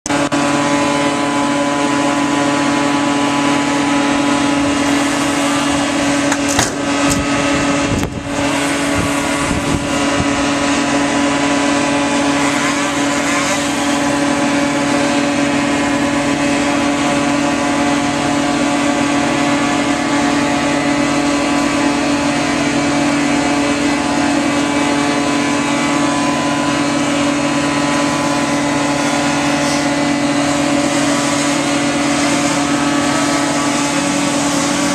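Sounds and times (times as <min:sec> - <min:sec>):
tree-trimming engine droning: 0:00.0 - 0:34.9.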